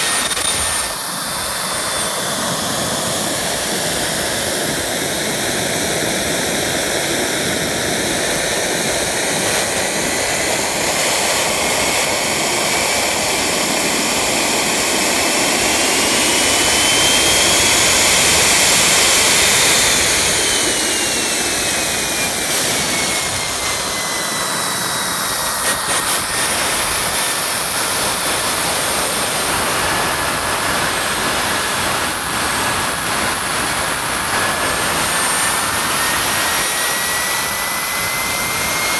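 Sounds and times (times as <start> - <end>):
model jet turbine whine: 0.0 - 38.9.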